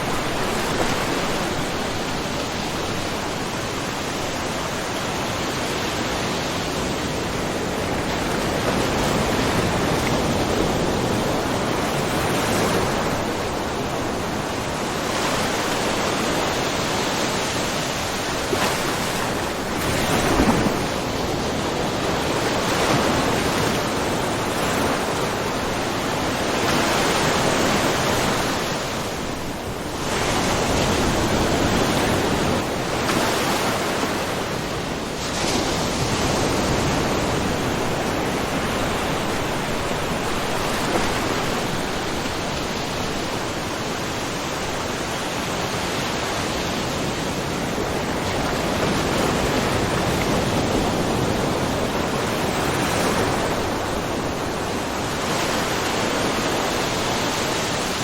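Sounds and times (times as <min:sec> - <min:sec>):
waves lapping on shore: 0:00.0 - 0:58.0.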